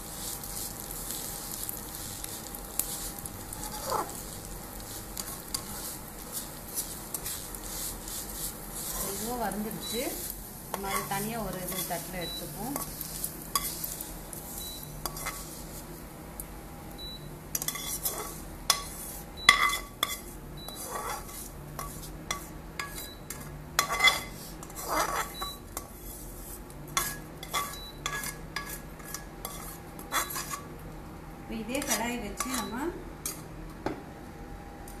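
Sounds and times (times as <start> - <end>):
spatula scraping a pan: 0.0 - 15.9, 17.6 - 30.8, 31.8 - 33.4.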